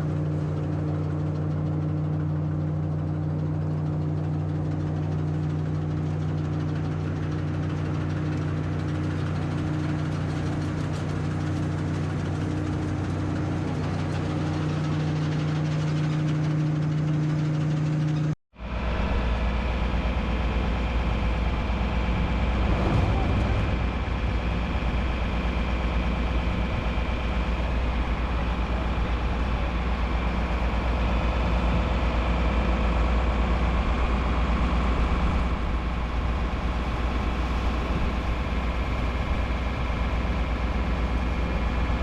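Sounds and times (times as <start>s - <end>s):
deeper engine running: 0.0s - 42.0s
farm machinery engine humming: 0.0s - 42.0s.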